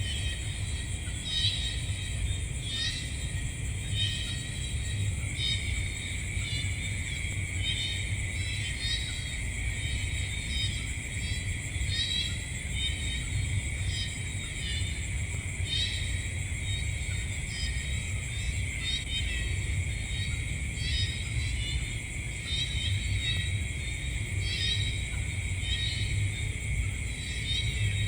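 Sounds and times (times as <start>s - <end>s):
insect chirps: 0.0s - 28.0s
insects trilling: 0.0s - 28.0s.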